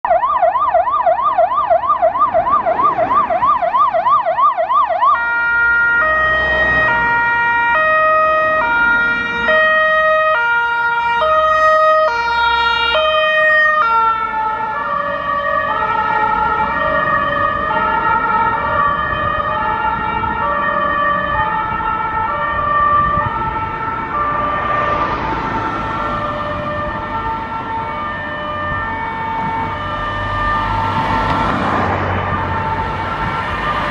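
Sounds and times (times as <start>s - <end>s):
fire truck siren: 0.0s - 33.9s
passing truck rumble: 0.3s - 33.9s.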